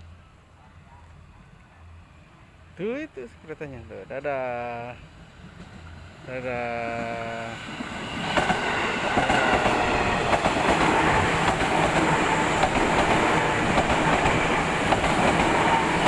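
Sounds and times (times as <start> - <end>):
train wheels rumbling on rails: 2.8 - 16.0.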